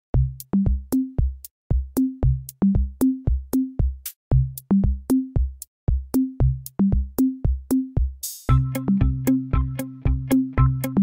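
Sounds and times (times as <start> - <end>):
bouncing bass line: 0.2 - 11.0
drum machine beat: 0.2 - 11.0
hi-hat ticks: 0.4 - 3.1, 4.0 - 11.0.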